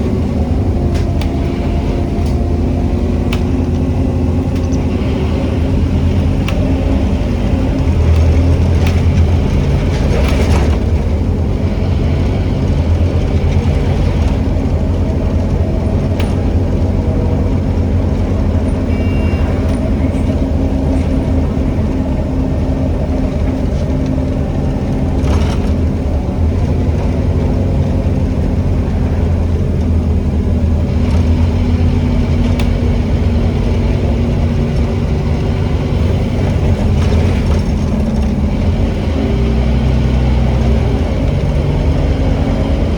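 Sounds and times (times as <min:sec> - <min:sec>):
bus diesel engine humming: 0:00.0 - 0:42.9.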